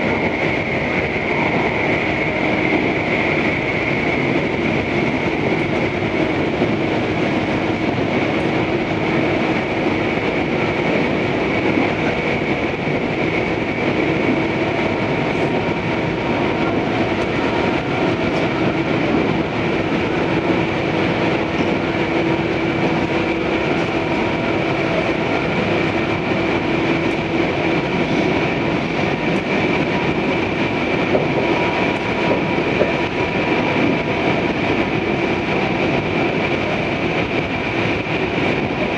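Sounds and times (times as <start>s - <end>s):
train rumble from inside: 0.0s - 38.9s.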